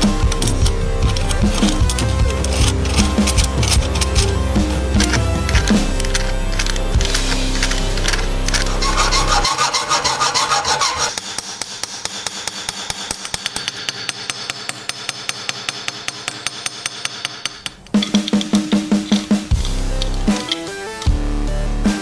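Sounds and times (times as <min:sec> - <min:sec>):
rapid metal-on-metal tapping: 0:00.0 - 0:21.2.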